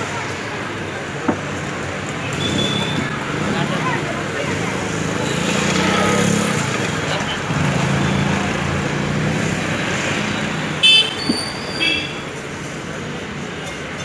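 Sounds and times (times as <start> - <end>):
engine and traffic rumble: 0.0 - 14.0.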